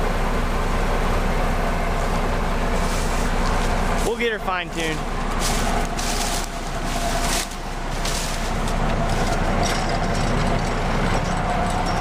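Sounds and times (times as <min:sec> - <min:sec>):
combine harvester drone: 0:00.0 - 0:12.0.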